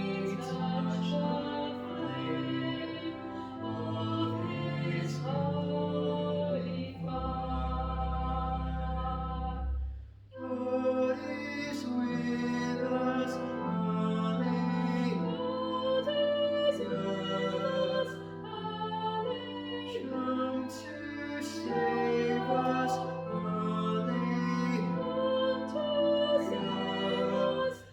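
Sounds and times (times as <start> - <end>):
voices singing a hymn: 0.0 - 27.9.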